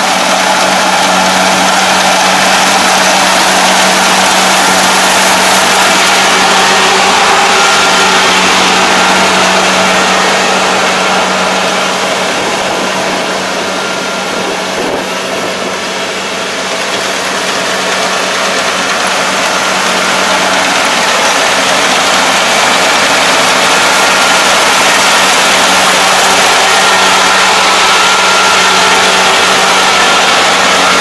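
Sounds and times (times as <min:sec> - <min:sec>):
combine harvester engine hum: 0:00.0 - 0:31.0.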